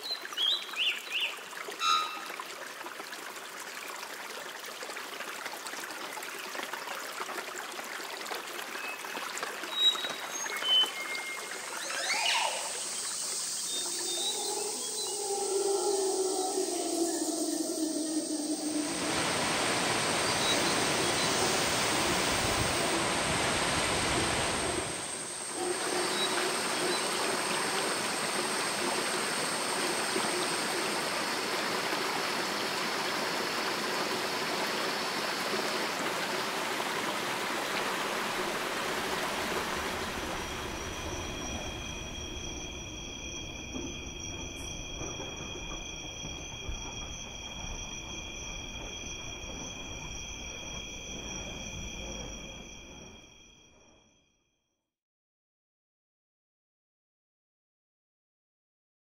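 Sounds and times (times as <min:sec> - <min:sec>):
insects calling: 0:00.0 - 0:02.4, 0:08.7 - 0:54.0
rushing water: 0:00.0 - 0:53.3.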